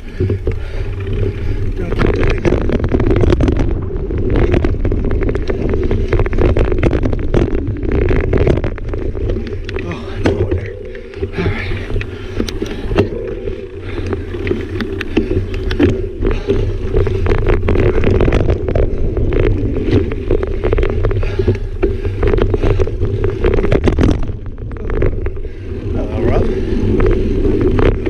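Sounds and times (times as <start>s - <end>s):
bike rattling clicks: 0.0s - 25.9s
tyre and wind rumble: 0.0s - 28.0s.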